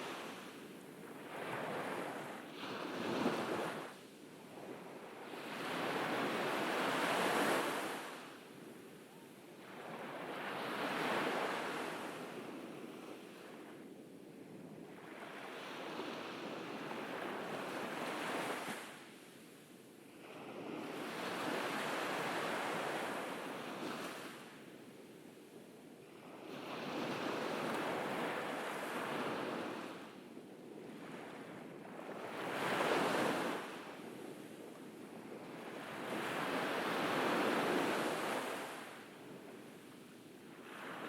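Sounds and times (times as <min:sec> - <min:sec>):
ocean waves breaking on beach: 0:00.0 - 0:13.9, 0:20.0 - 0:24.8, 0:26.1 - 0:30.2, 0:30.8 - 0:41.0.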